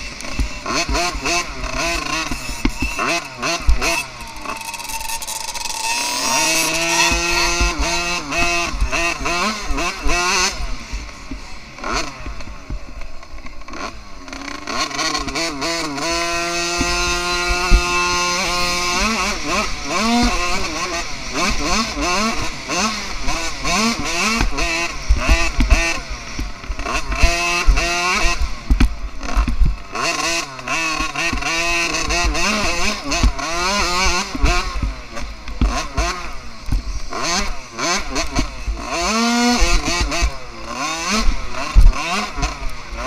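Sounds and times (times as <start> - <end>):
motocross bike engine revving: 0.0 - 43.0.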